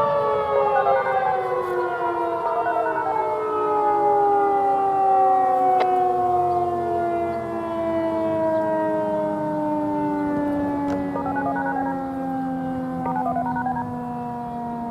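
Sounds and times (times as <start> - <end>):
two-tone warning siren: 0.0 - 14.9.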